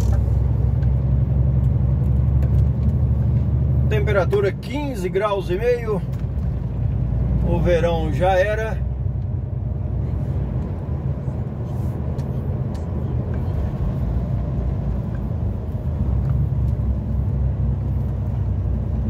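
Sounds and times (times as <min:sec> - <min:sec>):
road noise: 0:00.0 - 0:19.0
truck engine rumble inside cab: 0:00.0 - 0:19.0.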